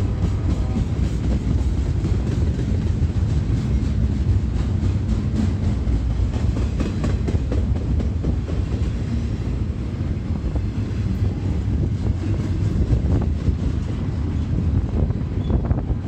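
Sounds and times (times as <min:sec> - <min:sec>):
wheels clacking over rail joints: 0:00.0 - 0:15.6
train wheels rumbling on rail: 0:00.0 - 0:16.0.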